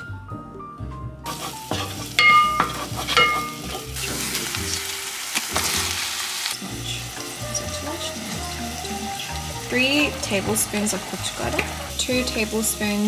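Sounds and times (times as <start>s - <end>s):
onions sizzling in a pot: 1.2s - 13.0s.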